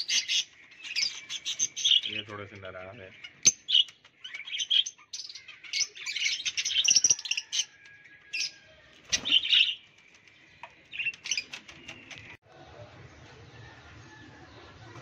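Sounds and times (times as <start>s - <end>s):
lovebirds chirping: 0.0s - 12.4s.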